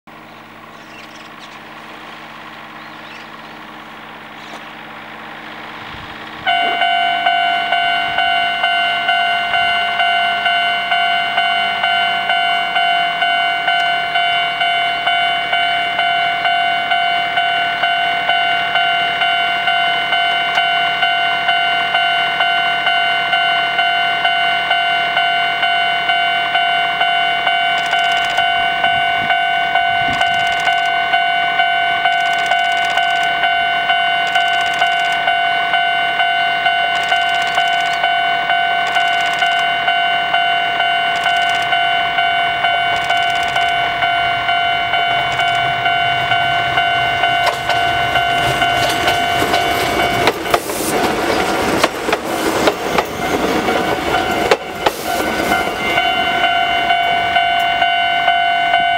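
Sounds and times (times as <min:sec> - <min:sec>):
electric train rumble: 0:00.1 - 0:58.9
level crossing bell ringing: 0:06.5 - 0:50.6, 0:52.9 - 0:58.9.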